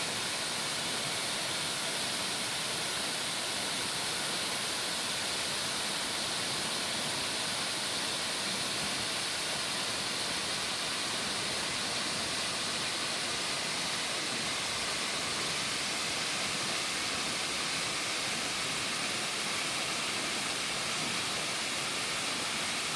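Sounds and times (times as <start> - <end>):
waterfall roaring: 0.0 - 22.9.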